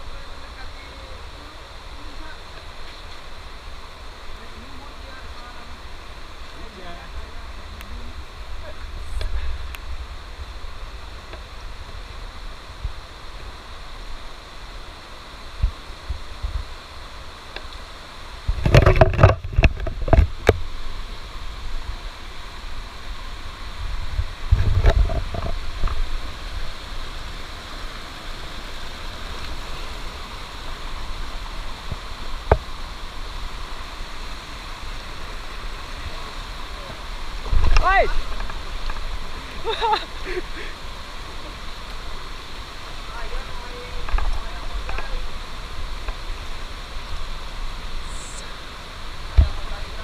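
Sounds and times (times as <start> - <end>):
stream rushing over stones: 0.0 - 50.0.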